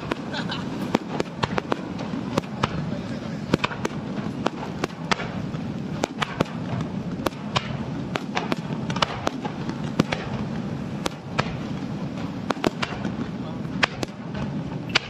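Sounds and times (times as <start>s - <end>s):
fireworks cracking: 0.0s - 15.0s
steady background rumble: 0.0s - 15.0s.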